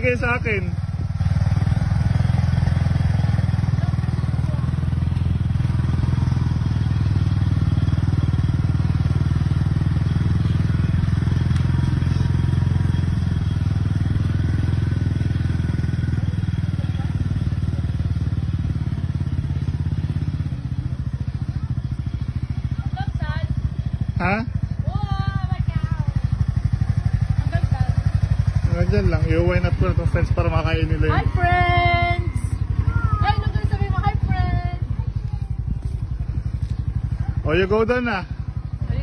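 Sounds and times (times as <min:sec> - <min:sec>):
farm vehicle engine running: 0:00.0 - 0:39.0.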